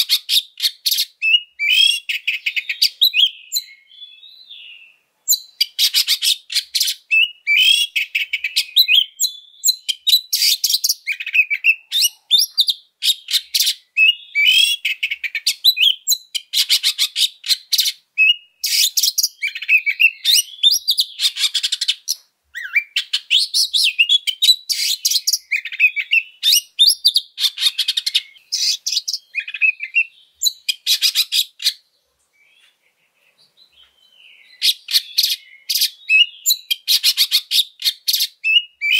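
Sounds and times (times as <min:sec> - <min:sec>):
bird singing whistles and rasps: 0:00.0 - 0:38.9.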